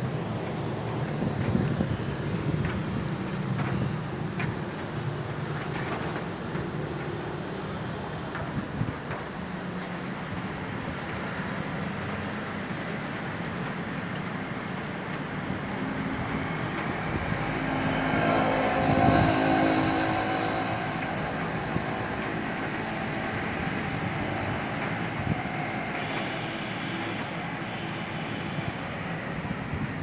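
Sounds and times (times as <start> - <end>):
rain: 0.0 - 30.0
storm wind: 0.0 - 30.0.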